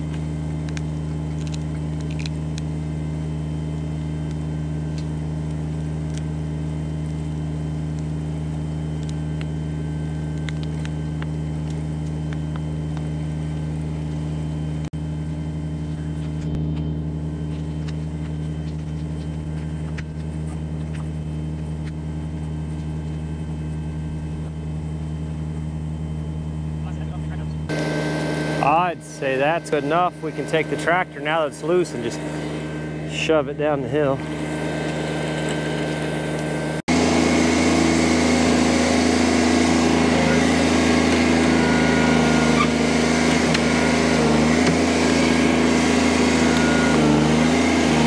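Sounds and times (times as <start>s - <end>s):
diesel tractor engine running: 0.0s - 48.0s.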